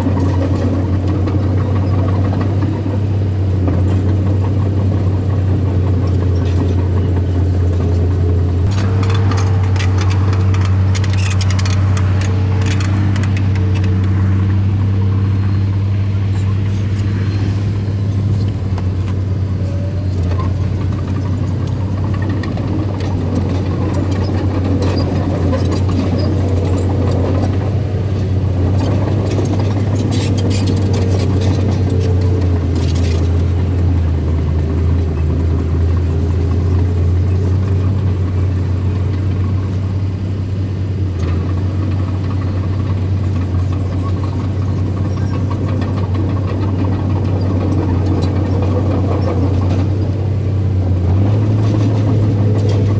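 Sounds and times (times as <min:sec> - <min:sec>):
heavy diesel engine humming: 0:00.0 - 0:52.9.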